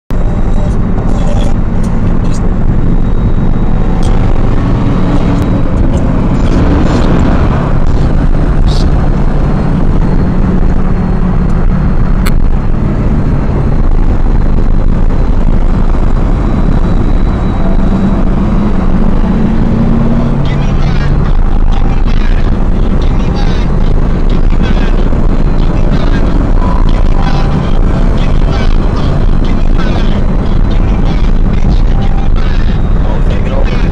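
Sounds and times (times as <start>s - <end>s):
car engine drone: 0.1s - 33.9s.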